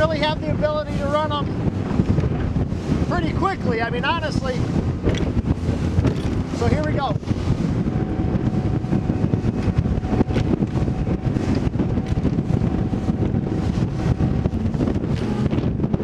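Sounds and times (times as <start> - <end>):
hull slapping waves: 0.0 - 16.0
outboard motor drone: 0.0 - 16.0
rushing water: 0.0 - 16.0
wind buffeting microphone: 0.0 - 16.0.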